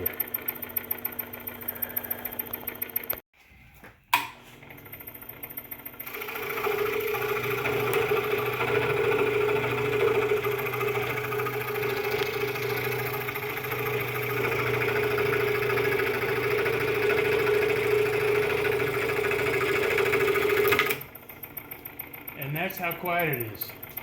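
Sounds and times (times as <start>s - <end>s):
scroll saw motor hum: 0.0s - 3.2s, 4.8s - 24.0s.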